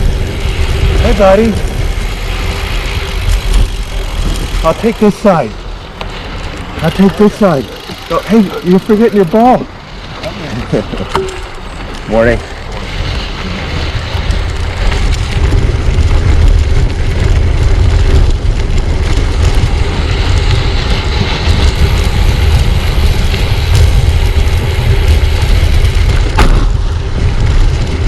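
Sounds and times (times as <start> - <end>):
bike tyres rolling on road: 0.0 - 28.0
wind buffeting microphone: 0.0 - 28.0.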